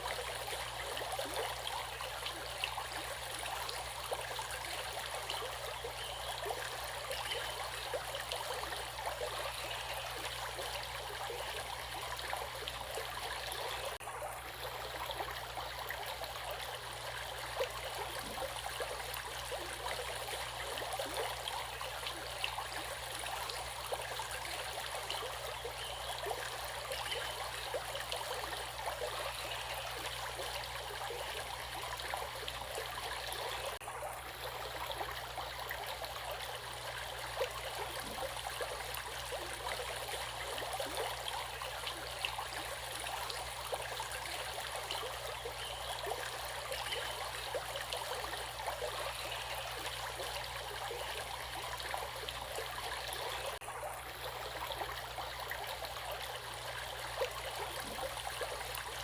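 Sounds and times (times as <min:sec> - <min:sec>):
small water splashes: 0:00.0 - 0:59.0.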